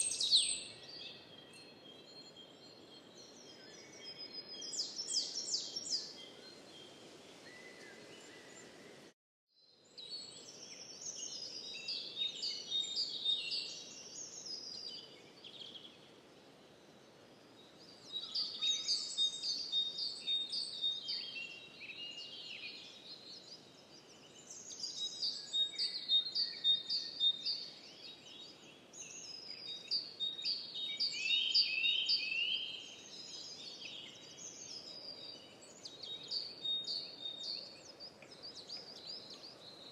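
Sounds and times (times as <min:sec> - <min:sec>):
songbirds chirping and warbling: 0:00.0 - 0:39.9.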